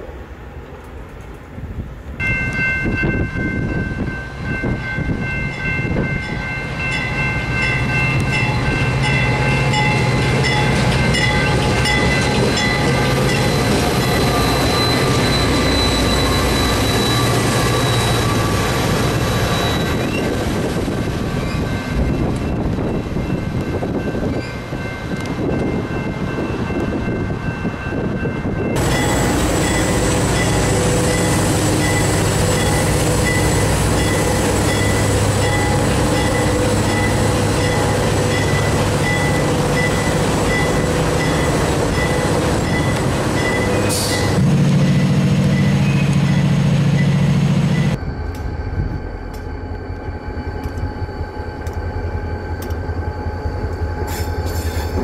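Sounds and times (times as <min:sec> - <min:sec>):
freight train rumbling: 0:00.0 - 0:55.0
train wheels squealing: 0:07.2 - 0:27.2, 0:28.7 - 0:55.0.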